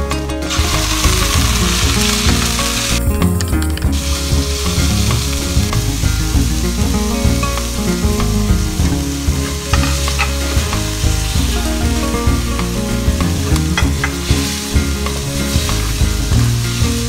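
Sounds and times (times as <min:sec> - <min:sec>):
pork and garlic sizzling in a wok: 0:00.5 - 0:17.0.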